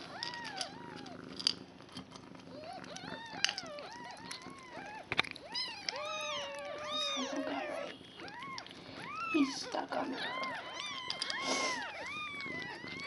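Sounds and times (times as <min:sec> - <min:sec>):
kittens mewing: 0:02.5 - 0:13.0.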